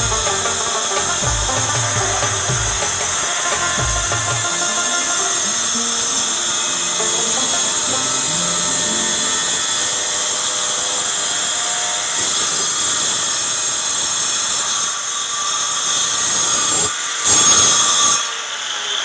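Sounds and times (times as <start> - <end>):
angle grinder cutting tile: 0.0 - 19.0.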